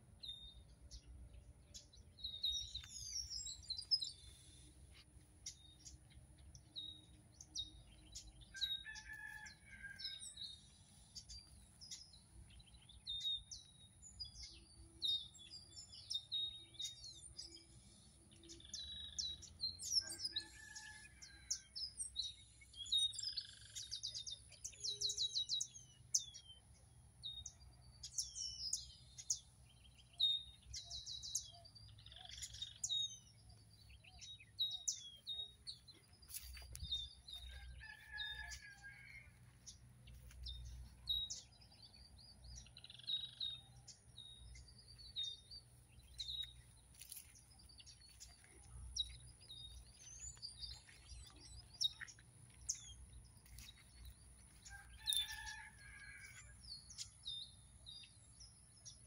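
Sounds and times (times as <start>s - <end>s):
small birds chirping: 0.1s - 21.4s, 27.3s - 59.0s.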